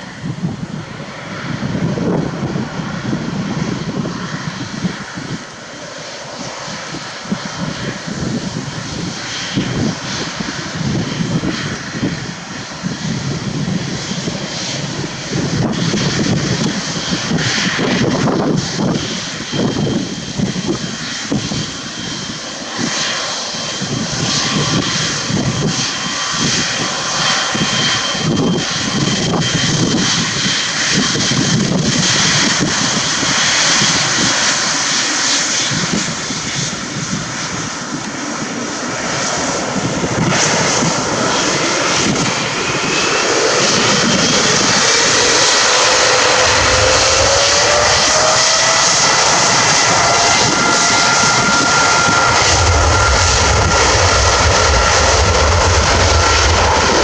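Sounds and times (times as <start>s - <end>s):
jet engines roaring on takeoff: 0.0s - 57.0s
rising jet whine: 0.0s - 57.0s.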